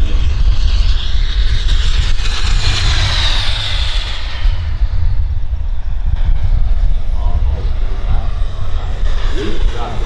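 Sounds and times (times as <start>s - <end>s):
jet turbine whining: 0.0s - 10.0s
low rumble: 0.0s - 10.0s.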